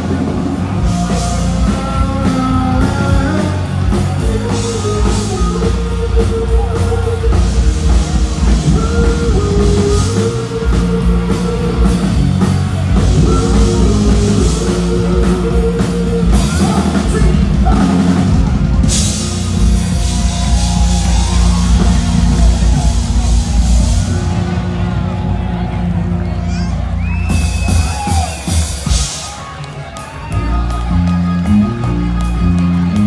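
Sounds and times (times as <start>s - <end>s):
drum kit beat: 0.0s - 33.0s
rock band over loudspeakers: 0.0s - 33.0s.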